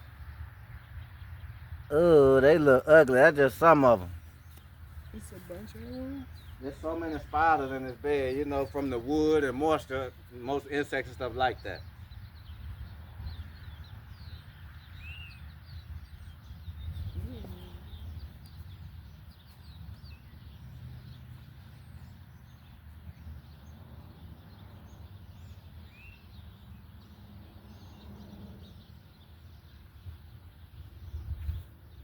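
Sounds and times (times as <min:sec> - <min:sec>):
birds chirping: 0:00.0 - 0:32.0
low rumble of wind: 0:00.0 - 0:32.0.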